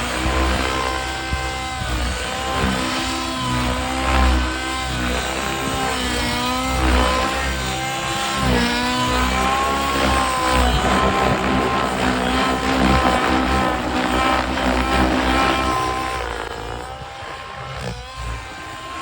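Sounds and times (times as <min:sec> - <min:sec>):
model helicopter engine running: 0:00.0 - 0:19.0.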